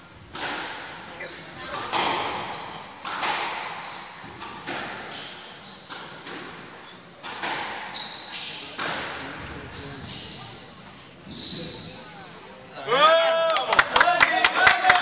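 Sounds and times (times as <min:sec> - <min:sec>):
shoes squeaking on wooden floor: 0:00.3 - 0:12.8.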